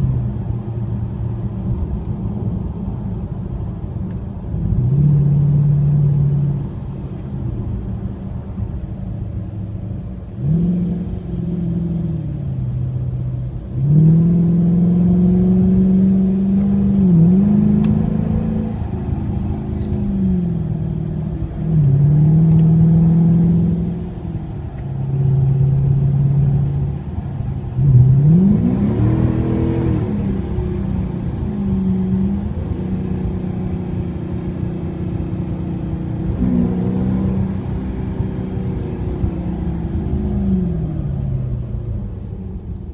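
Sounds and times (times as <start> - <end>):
car exhaust accelerating hard: 0.0 - 42.9.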